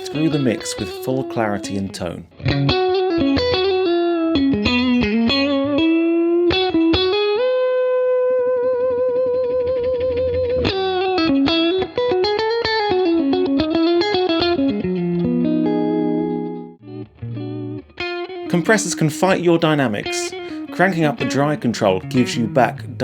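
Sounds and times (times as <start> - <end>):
electric guitar lead: 0.0 - 23.0.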